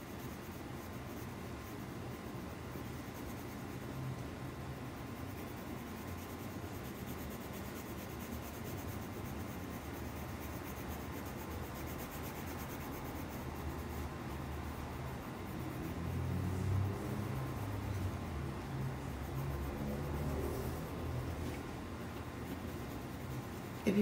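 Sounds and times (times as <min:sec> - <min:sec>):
pencil rubbing on paper: 0:00.0 - 0:04.0, 0:04.7 - 0:24.0.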